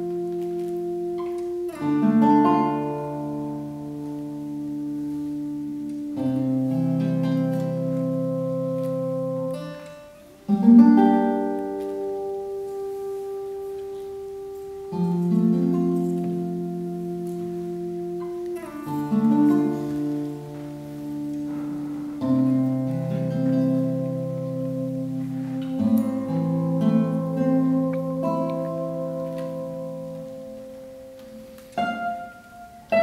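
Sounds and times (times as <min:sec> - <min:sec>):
two acoustic guitars playing chords: 0:00.0 - 0:33.0.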